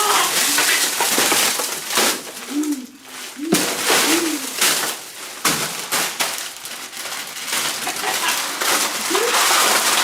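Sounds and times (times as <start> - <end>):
rustling and crinkling: 0.0 - 10.0.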